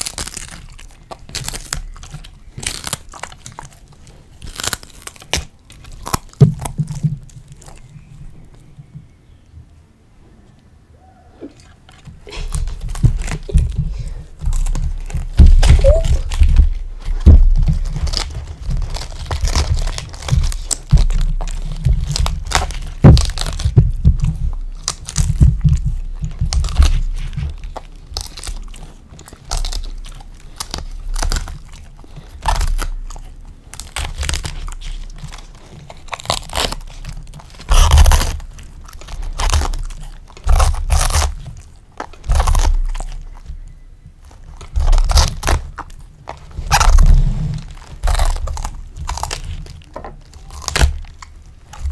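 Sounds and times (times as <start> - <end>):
dog chewing cabbage leaves: 0.0 - 9.4, 11.4 - 51.9.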